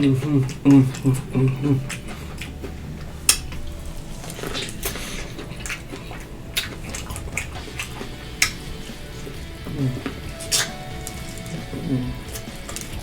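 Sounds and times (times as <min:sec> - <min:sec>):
eating clicks and smacks: 0:00.0 - 0:13.0
low steady hum: 0:00.0 - 0:13.0.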